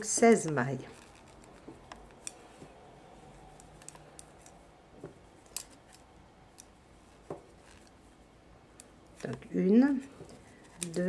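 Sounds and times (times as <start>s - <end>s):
knitting needles clicking: 0.0s - 8.0s, 8.7s - 11.0s.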